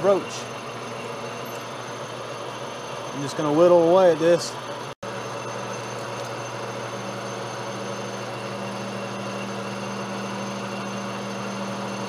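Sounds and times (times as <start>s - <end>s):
lathe running: 0.0s - 12.0s.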